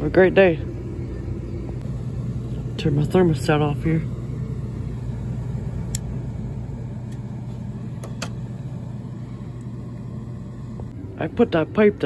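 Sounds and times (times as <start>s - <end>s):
furnace humming and rumbling: 0.0s - 12.0s.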